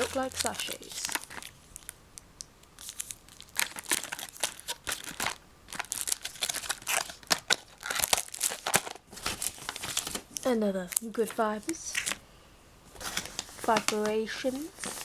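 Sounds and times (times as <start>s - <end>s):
packaging crinkling: 0.0s - 12.2s, 12.9s - 15.0s.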